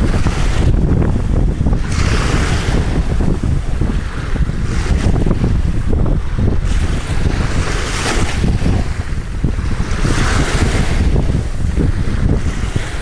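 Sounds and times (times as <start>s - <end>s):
small waves washing on sand: 0.0s - 13.0s
wind buffeting microphone: 0.0s - 13.0s.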